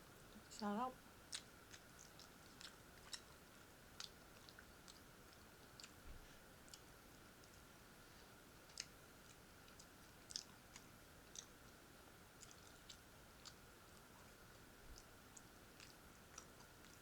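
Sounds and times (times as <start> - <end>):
faint steady hum: 0.0 - 17.0
person chewing: 1.3 - 7.6, 8.6 - 11.6, 12.4 - 17.0.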